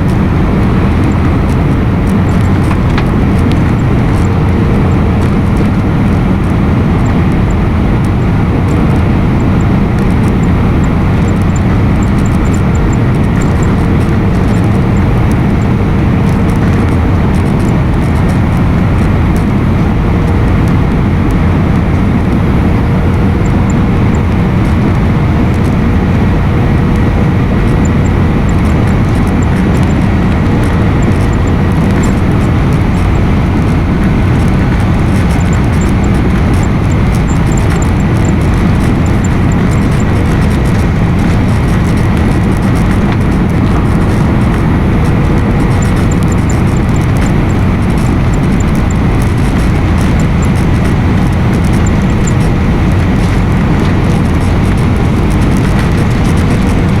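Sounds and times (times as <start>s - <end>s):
airliner cabin engine noise: 0.0s - 57.0s
faint steady whine: 0.0s - 57.0s.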